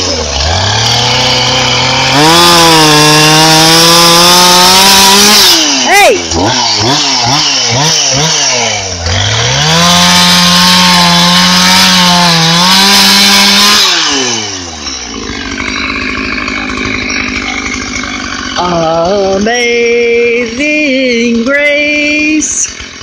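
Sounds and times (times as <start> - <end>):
chainsaw engine revving and idling: 0.0 - 23.0.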